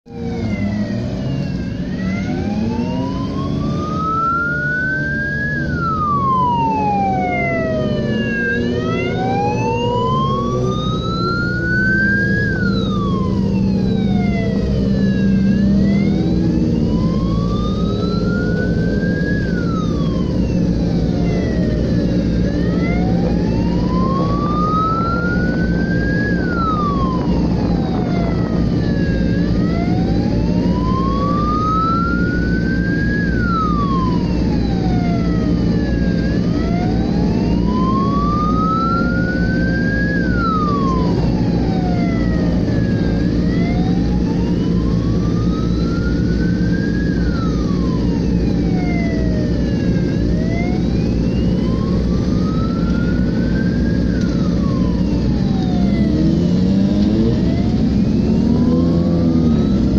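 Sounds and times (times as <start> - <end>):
racing car engines: 0.1 - 59.9
siren wailing: 0.1 - 59.9.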